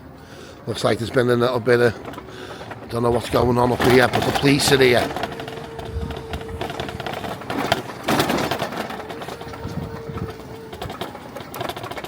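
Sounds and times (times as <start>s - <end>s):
steady whine: 0.0s - 12.0s
car engine mechanical clatter: 0.6s - 12.0s.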